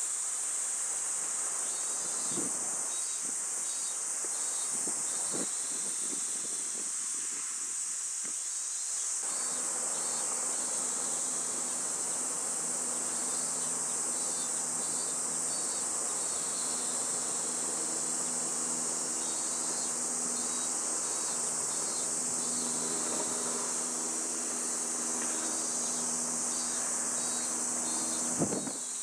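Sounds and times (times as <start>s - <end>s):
insects shrilling: 0.0s - 29.0s.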